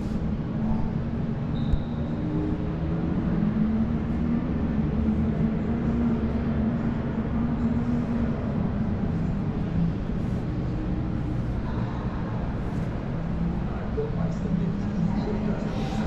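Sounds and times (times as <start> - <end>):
faint hum: 0.0 - 16.0
low background rumble: 0.0 - 16.0.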